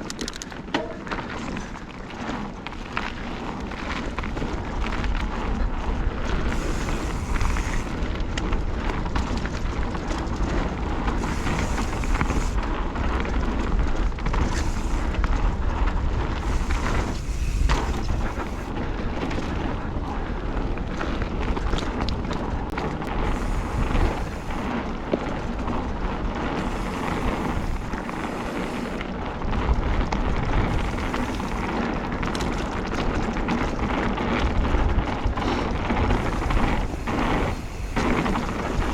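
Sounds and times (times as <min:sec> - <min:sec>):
bike tyres rolling on dirt: 0:00.0 - 0:38.9
wind rumbling on microphone: 0:00.0 - 0:38.9.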